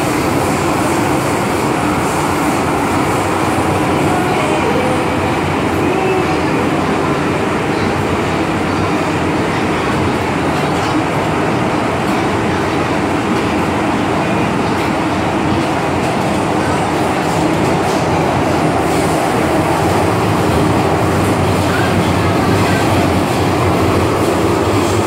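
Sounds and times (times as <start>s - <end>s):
subway train rumbling in tunnel: 0.0s - 25.0s.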